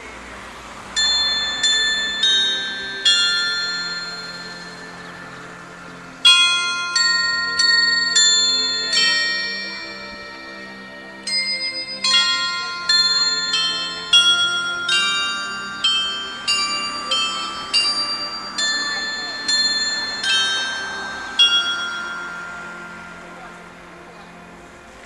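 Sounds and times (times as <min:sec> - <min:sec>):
carillon bells playing melody: 0:00.0 - 0:25.0.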